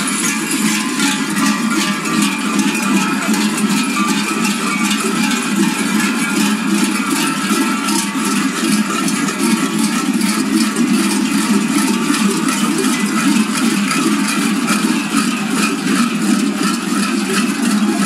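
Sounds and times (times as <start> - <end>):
large metal bells clanging: 0.0 - 18.0.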